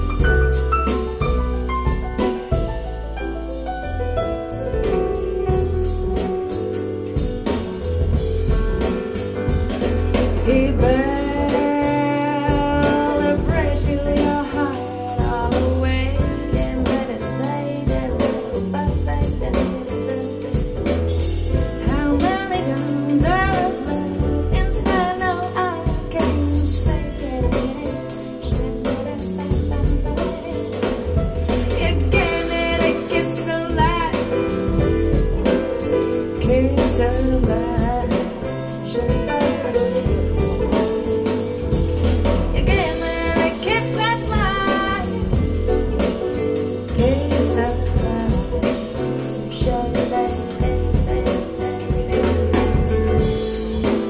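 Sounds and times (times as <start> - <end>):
band accompaniment with deep bass: 0.0 - 54.0
woman singing jazzy song: 4.5 - 8.4, 10.2 - 54.0.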